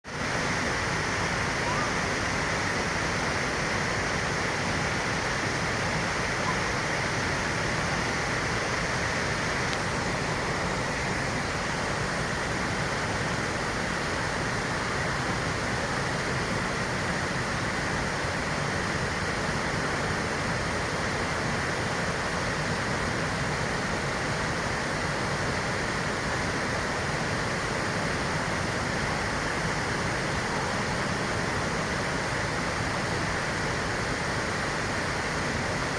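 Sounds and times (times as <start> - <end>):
fountain water splashing: 0.1 - 35.9.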